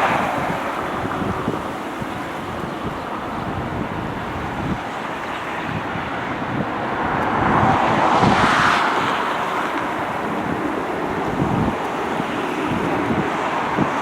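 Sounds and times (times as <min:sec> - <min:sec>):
jet airliner engine passing: 0:00.0 - 0:14.0
wind buffeting microphone: 0:00.0 - 0:14.0.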